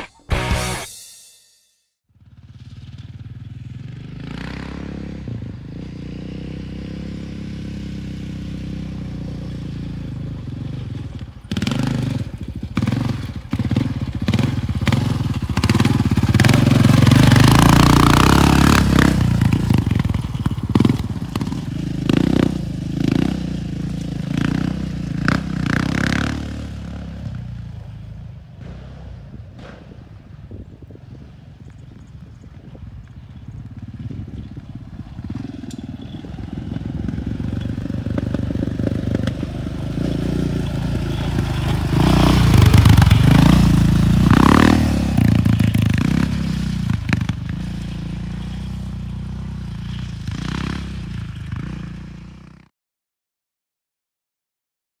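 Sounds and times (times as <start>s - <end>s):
quad engine revving: 2.2s - 30.2s, 33.7s - 52.5s.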